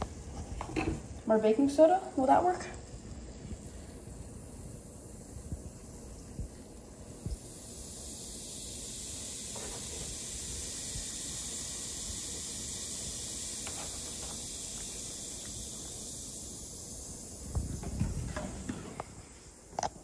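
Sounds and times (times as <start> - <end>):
baking soda and vinegar fizzing: 1.8 - 19.6.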